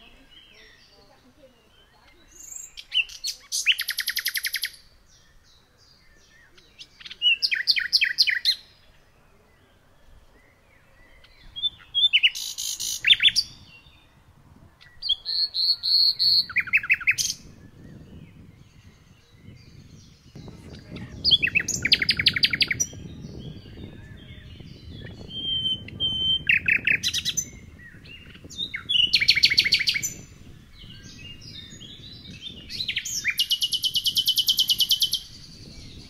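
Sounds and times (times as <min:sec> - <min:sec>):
songbird trilling: 0:00.0 - 0:36.0.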